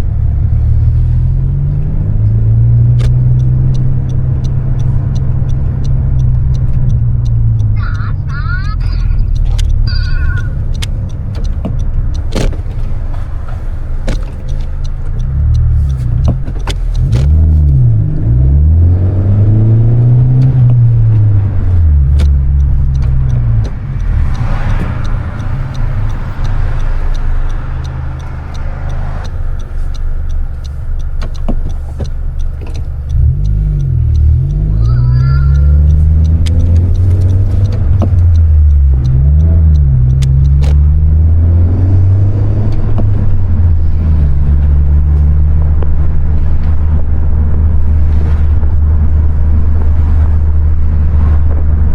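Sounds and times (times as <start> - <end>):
car engine revving through gear changes: 0.0 - 51.9.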